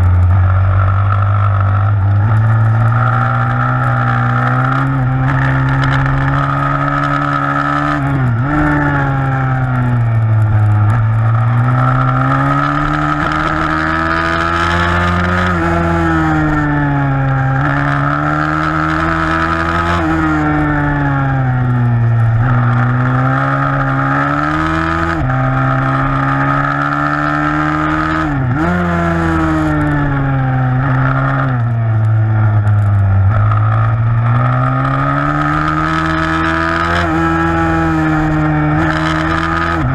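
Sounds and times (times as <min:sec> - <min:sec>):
pit bike engine racing: 0:00.0 - 0:39.9.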